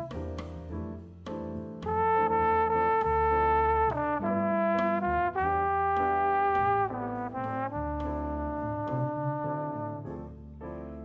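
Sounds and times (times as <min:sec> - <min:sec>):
bass: 0:00.0 - 0:11.0
slide trombone jazz melody: 0:00.0 - 0:11.0.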